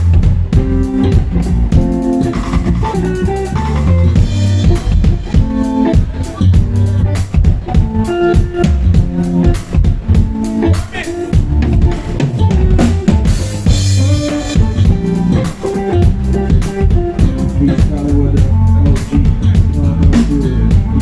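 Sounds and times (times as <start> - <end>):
bass notes: 0.0 - 21.0
drum kit groove: 0.0 - 21.0
live band jamming: 0.0 - 21.0.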